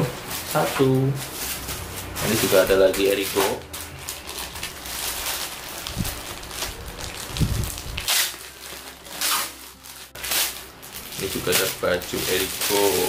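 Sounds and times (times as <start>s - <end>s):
plastic packaging rustling: 0.0s - 13.0s
sharp crackle: 0.3s - 13.0s.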